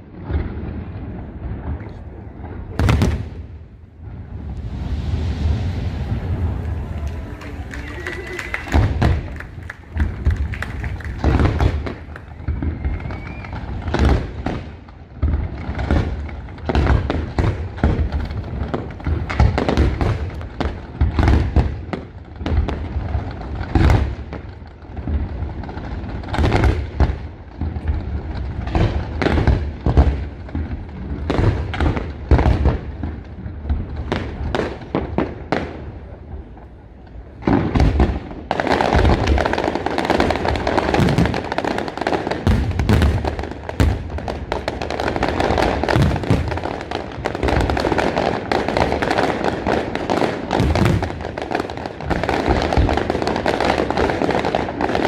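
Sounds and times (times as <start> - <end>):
fireworks booming and banging: 0.0 - 55.0.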